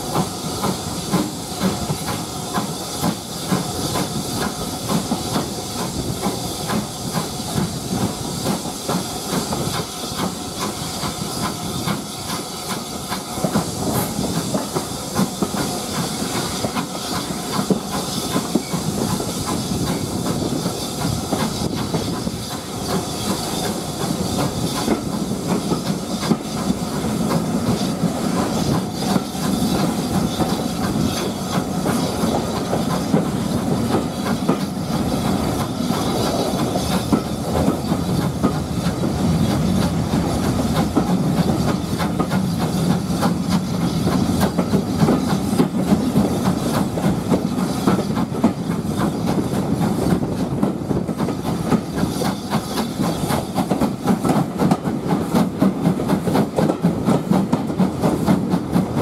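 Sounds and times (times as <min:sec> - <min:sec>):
train rushing noise: 0:00.0 - 0:59.0
train wheels clicking and knocking: 0:00.0 - 0:59.0.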